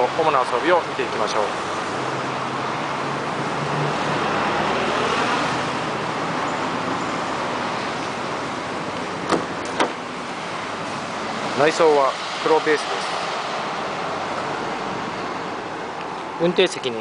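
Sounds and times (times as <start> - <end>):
road traffic rush: 0.0 - 17.0
vehicle passing: 1.4 - 16.8.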